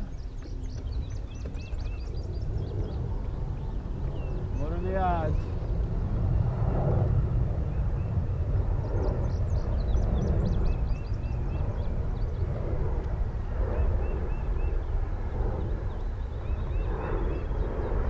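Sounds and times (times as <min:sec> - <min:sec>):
songbirds chirping: 0:00.0 - 0:06.2, 0:07.6 - 0:18.0
jet engines rumbling overhead: 0:00.0 - 0:18.0.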